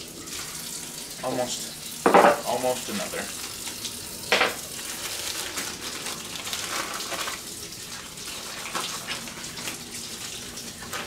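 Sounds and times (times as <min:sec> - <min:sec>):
sink tap running: 0:00.0 - 0:11.0.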